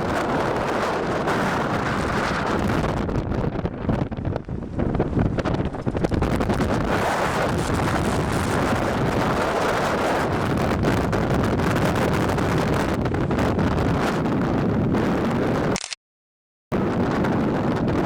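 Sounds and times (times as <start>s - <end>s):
wind buffeting microphone: 0.0s - 15.8s, 16.7s - 18.0s.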